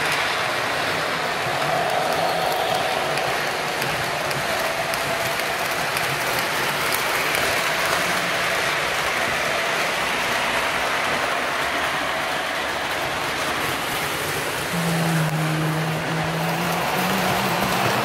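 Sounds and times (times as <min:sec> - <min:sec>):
model train wheels rattling on track: 0:00.0 - 0:18.0.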